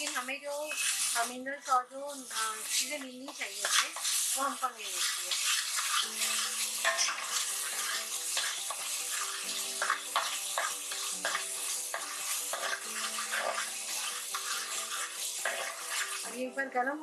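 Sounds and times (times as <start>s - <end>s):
metal spatula scraping and knocking pot: 0.0s - 16.4s
paste sizzling in oil: 0.0s - 16.7s.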